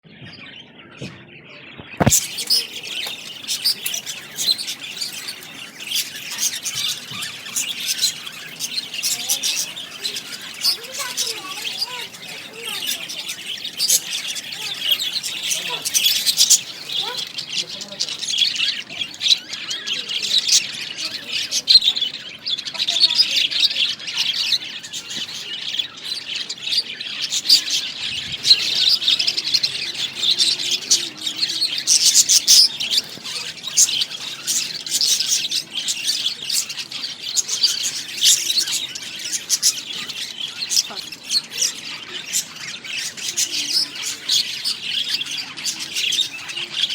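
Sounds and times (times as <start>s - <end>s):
budgerigars chattering: 1.8s - 46.9s.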